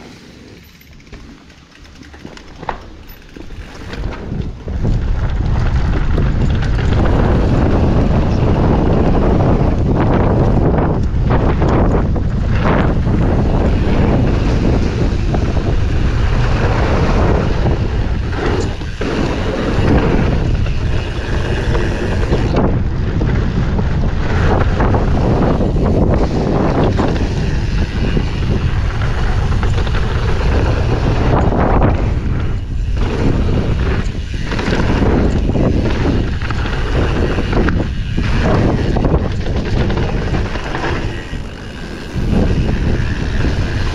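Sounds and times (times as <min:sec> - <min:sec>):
bike tyres rumbling on dirt: 0:00.0 - 0:43.9
wind on microphone: 0:03.5 - 0:43.9.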